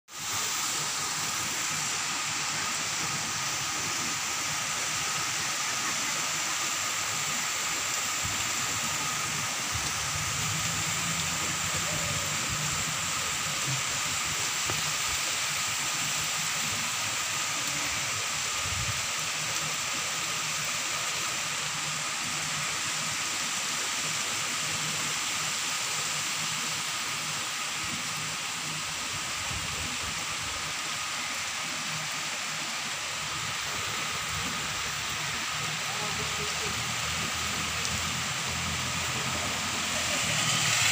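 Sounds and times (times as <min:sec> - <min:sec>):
heavy rain: 0:00.1 - 0:40.9.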